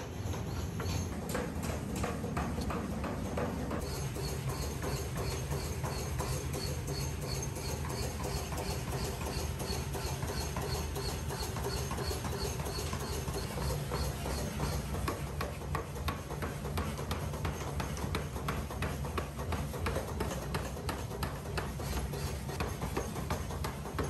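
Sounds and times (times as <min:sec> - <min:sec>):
machinery humming and clattering: 0:00.0 - 0:24.0.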